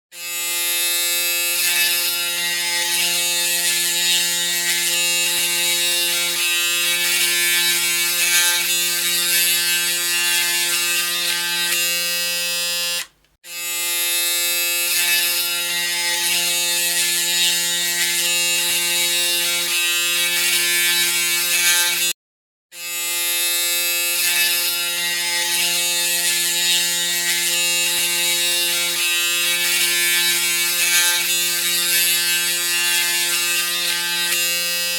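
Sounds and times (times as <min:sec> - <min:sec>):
electric shaver buzzing: 0:00.1 - 0:34.9.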